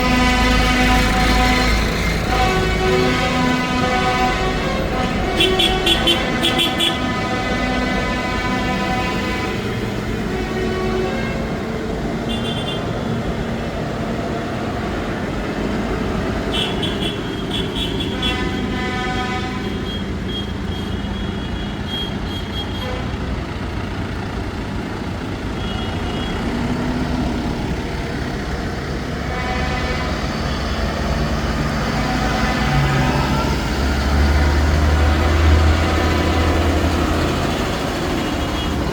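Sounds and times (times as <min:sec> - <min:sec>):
horn tooting: 0:00.0 - 0:13.4, 0:16.2 - 0:23.5, 0:25.5 - 0:38.9
tractor engines running: 0:00.0 - 0:38.9.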